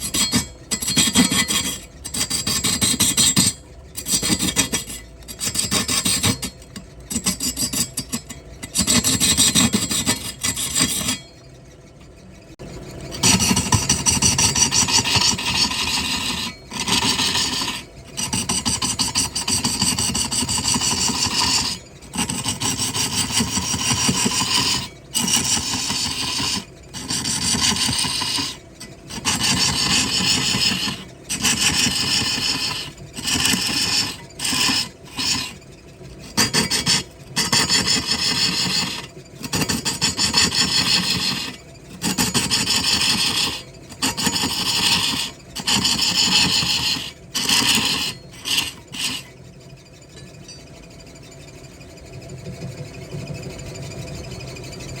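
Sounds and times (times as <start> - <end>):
lathe tool rasping on wood: 0.0 - 11.5, 12.5 - 50.0.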